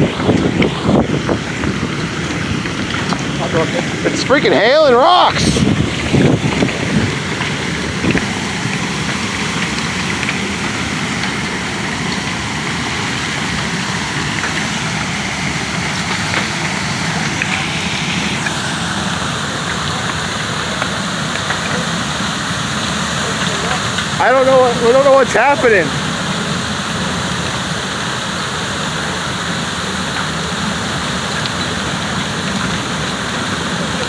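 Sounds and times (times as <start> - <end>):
gravel and rocks ticking: 0.0 - 34.0
water gushing and spraying: 0.0 - 34.0.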